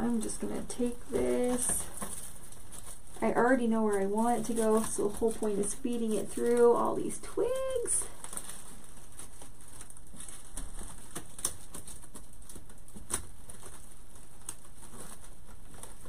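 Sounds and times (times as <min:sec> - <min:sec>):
dry twigs crackling: 0:00.0 - 0:16.0
ribbon rustling: 0:00.0 - 0:16.0.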